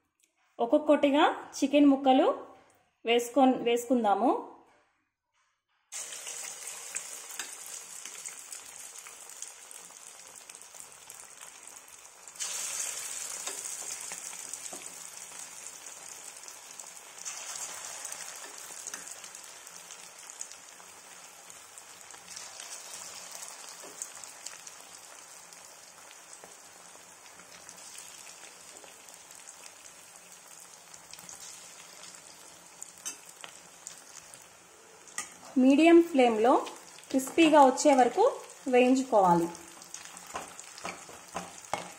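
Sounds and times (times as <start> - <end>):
chicken deep-frying in oil: 5.9 - 41.9.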